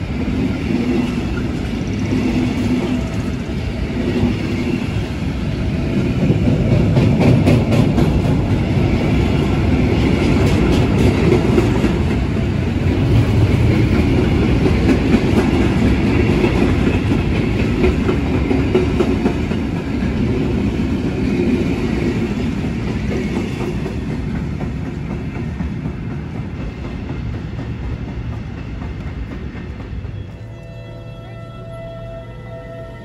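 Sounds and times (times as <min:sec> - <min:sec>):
train wheels clattering on rails: 0:00.0 - 0:30.6.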